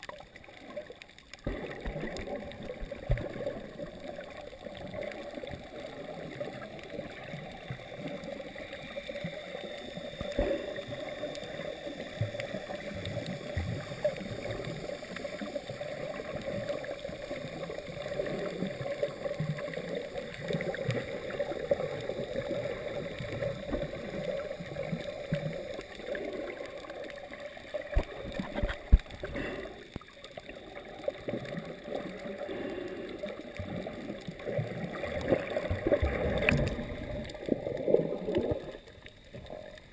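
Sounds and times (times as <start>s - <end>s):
underwater water wash: 0.0s - 39.9s.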